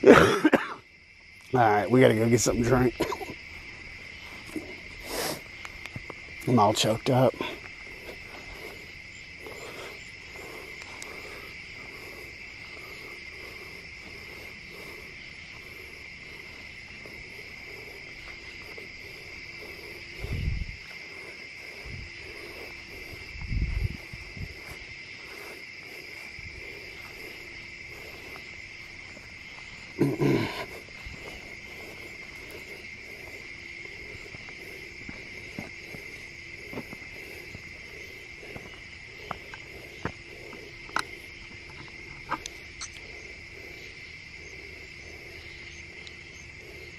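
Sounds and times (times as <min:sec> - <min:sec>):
crickets trilling: 0:00.0 - 0:46.9.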